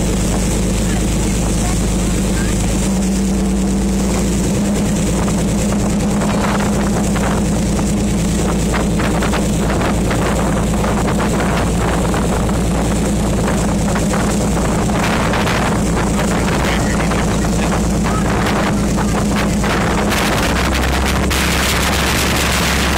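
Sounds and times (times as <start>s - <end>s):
boat engine running: 0.0s - 22.9s
rushing water: 0.0s - 22.9s
wind noise: 0.0s - 22.9s.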